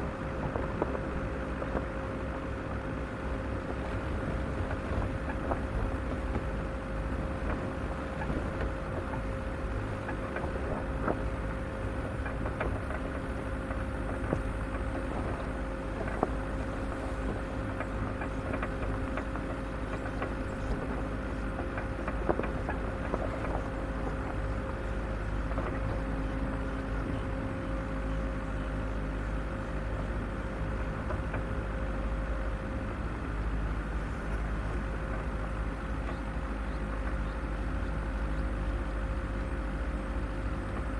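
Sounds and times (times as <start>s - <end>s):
off-road vehicle engine rumble: 0.0s - 40.9s.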